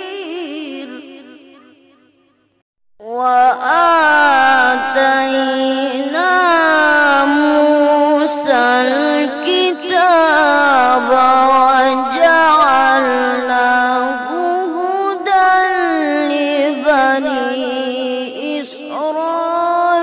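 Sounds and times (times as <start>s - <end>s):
boy reciting melodically: 0.0s - 1.7s, 3.0s - 20.0s.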